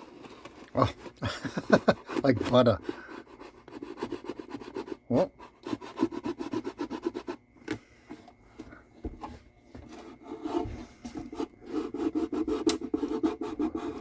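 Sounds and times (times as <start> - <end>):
tool scraping wooden joint: 0.0 - 7.4, 9.2 - 14.0.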